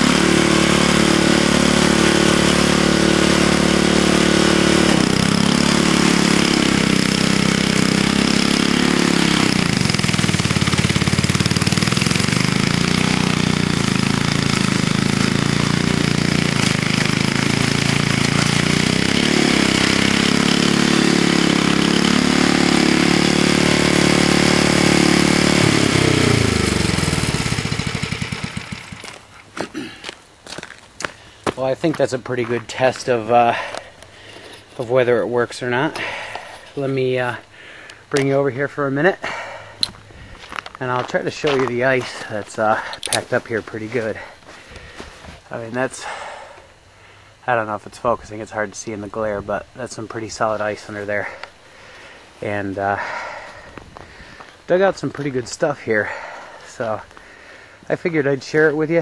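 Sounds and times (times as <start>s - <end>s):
snowblower engine running: 0.0s - 29.4s, 32.7s - 38.5s, 39.2s - 46.6s, 50.0s - 59.0s.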